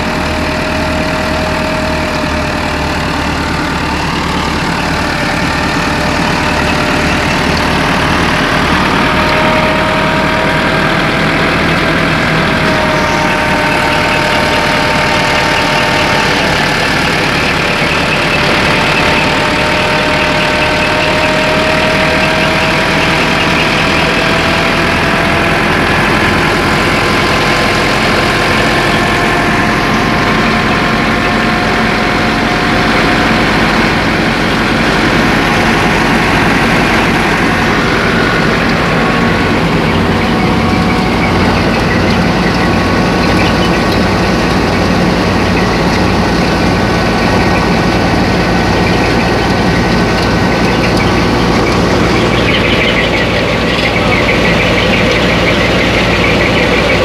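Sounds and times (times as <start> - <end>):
thresher drum and belts running: 0.0 - 57.0
tractor diesel engine running: 0.0 - 57.0.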